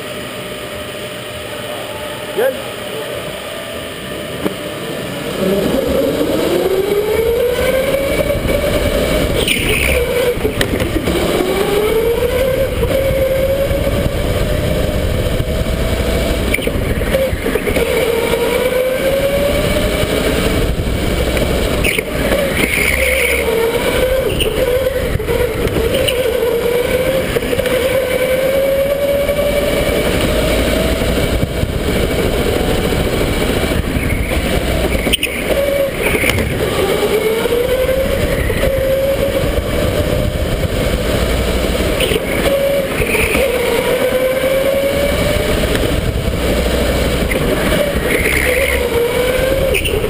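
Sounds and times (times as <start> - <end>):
electric go-kart motor whining: 0.0 - 50.0
low rushing noise: 0.0 - 50.0.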